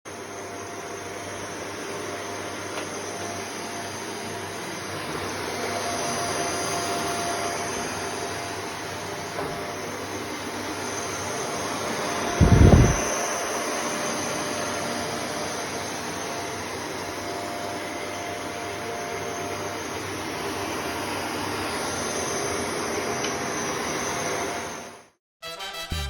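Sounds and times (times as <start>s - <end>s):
upright vacuum cleaner running: 0.1s - 25.1s.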